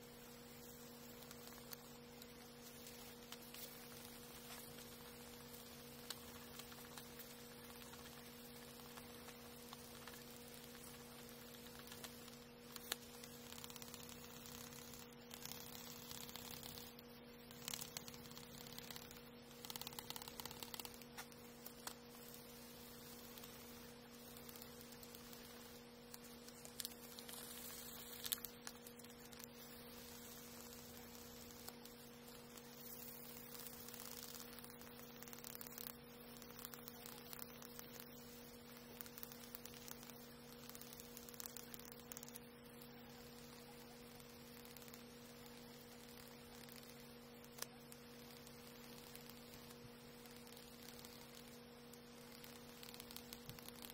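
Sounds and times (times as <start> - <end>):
small clicks: 0.0 - 53.9
steady electrical hum: 0.0 - 53.9.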